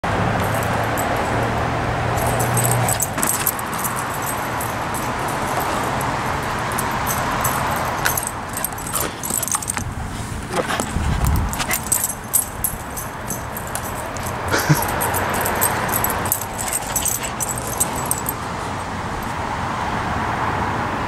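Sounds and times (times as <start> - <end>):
light metallic jingling: 0.0 - 19.4.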